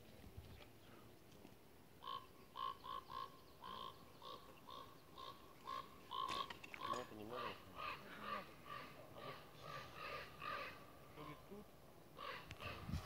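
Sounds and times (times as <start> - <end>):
animal calling: 2.0 - 13.0.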